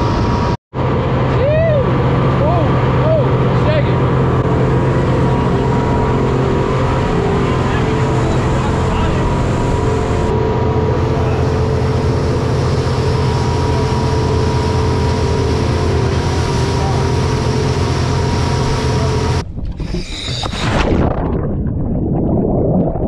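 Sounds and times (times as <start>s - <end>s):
motorboat engine humming: 0.0s - 21.8s
water rushing along hull: 0.0s - 21.8s.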